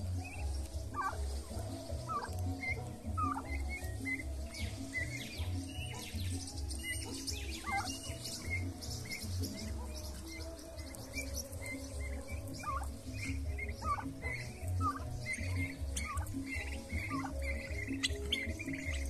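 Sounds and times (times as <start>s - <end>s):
background music with low beat: 0.0s - 19.0s
turkey poults peeping: 0.0s - 19.0s.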